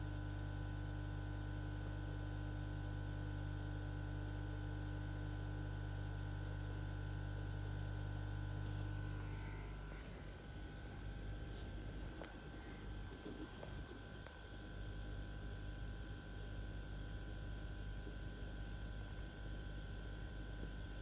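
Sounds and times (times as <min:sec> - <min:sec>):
aquarium pump hum: 0:00.0 - 0:21.0.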